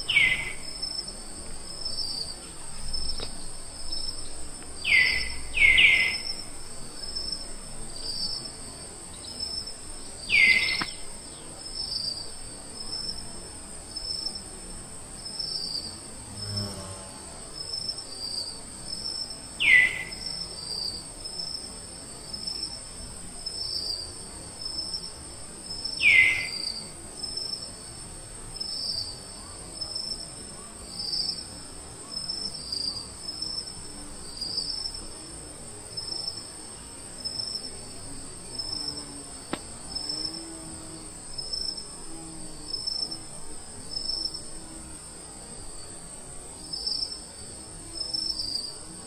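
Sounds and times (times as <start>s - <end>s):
insects buzzing: 0.0s - 49.0s
pulsing insect chirp: 0.0s - 49.0s.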